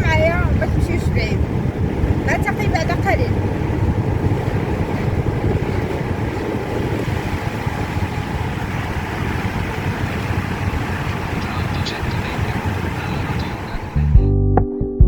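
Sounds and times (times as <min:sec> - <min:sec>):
low rumbling noise with hiss: 0:00.0 - 0:14.2.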